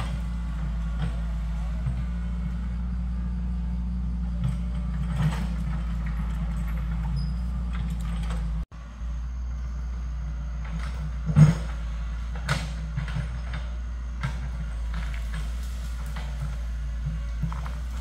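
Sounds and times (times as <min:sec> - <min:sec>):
excavator engine humming: 0:00.0 - 0:18.0.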